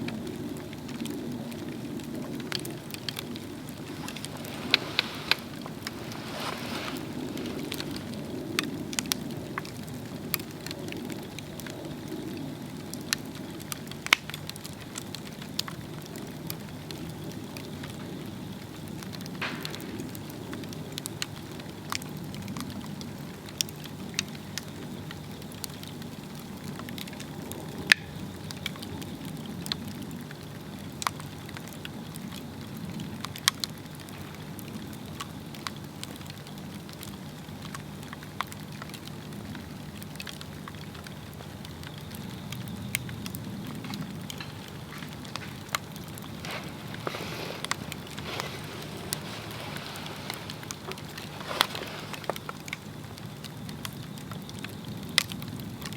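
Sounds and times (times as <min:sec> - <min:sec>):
log fire burning: 0:00.0 - 0:55.9
wood crackling and popping: 0:00.0 - 0:55.9.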